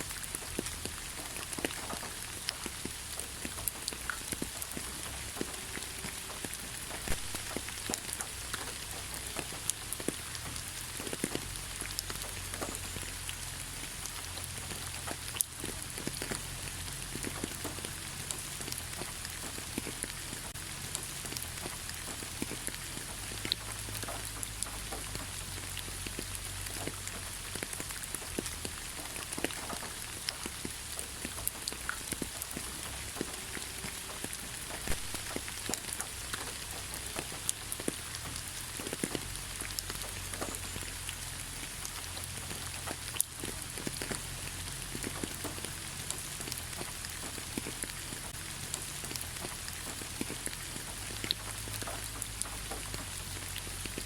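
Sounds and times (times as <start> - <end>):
raindrops ticking: 0.0 - 54.0
steady rain: 0.0 - 54.0.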